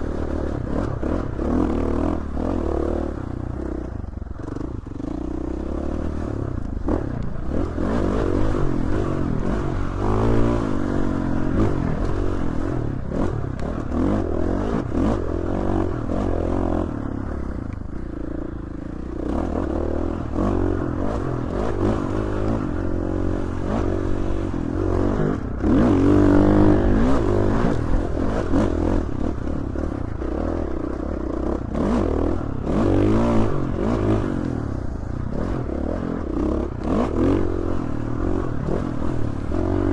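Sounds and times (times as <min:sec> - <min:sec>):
bike rattling over rough ground: 0:00.0 - 0:39.9
dirt bike engine revving: 0:00.0 - 0:39.9.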